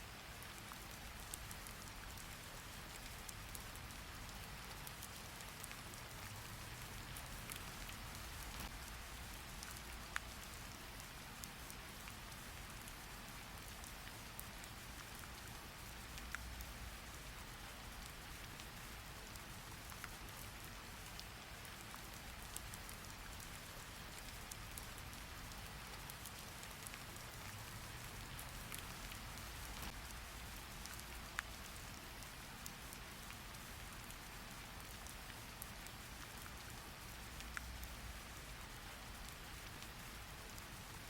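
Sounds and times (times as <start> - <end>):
sharp ticks of raindrops: 0.0 - 41.0
steady rain falling: 0.0 - 41.0.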